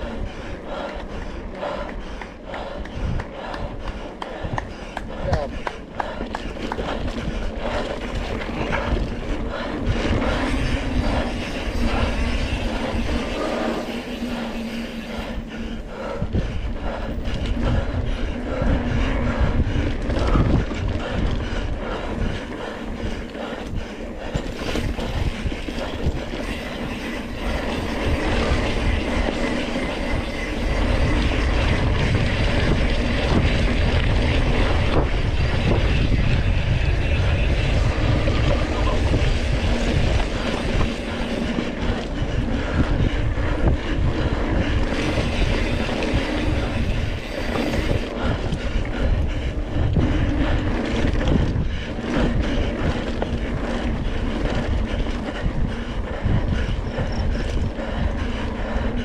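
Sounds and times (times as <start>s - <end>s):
mountain bike rumbling and rattling: 0.0s - 59.0s
rushing wind: 0.0s - 59.0s.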